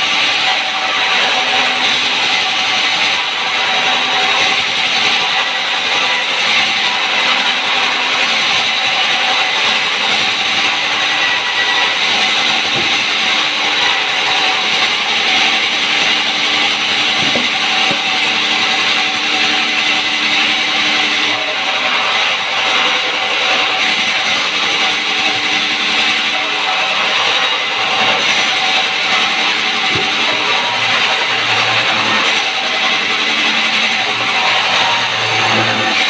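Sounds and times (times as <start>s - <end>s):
saw cutting through timber: 0.0s - 36.0s.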